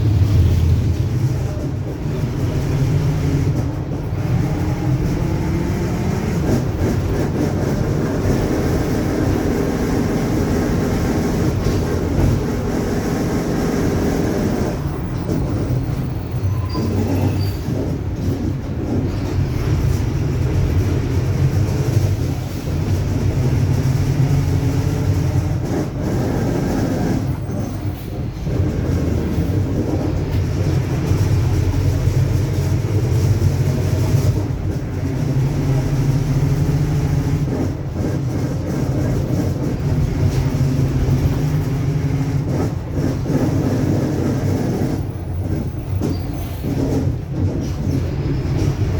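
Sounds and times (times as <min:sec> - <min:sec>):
diesel bus engine running: 0:00.0 - 0:48.9.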